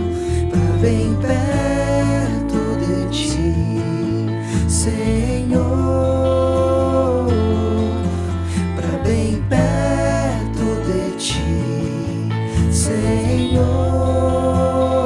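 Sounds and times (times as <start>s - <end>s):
acoustic guitar: 0.0s - 15.0s
steady low bass: 0.0s - 15.0s.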